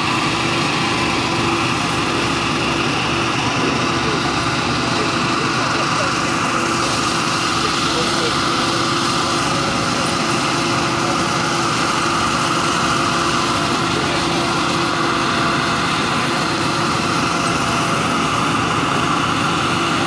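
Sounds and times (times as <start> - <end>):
fire truck engines idling: 0.0 - 20.0.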